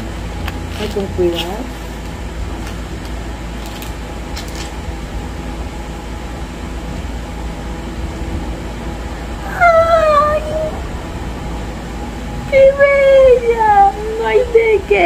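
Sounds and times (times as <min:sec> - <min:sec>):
electric fans humming: 0:00.0 - 0:15.0.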